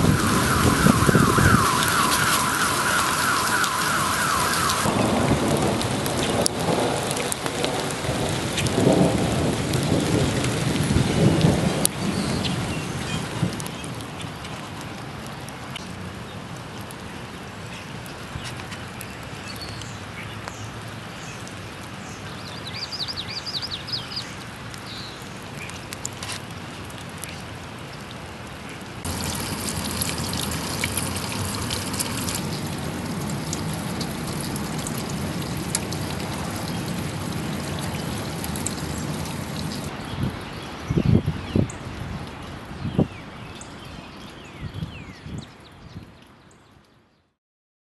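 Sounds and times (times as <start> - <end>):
water pouring and trickling: 0.0 - 17.1, 18.0 - 28.3, 29.0 - 47.0
heavy rain falling: 0.0 - 43.4.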